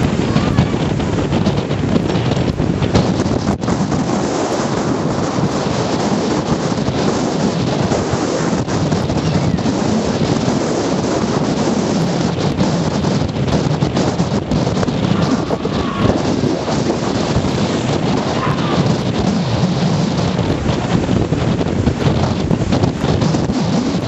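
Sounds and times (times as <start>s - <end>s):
surf churning: 0.0s - 24.0s
wind buffeting microphone: 0.0s - 24.0s.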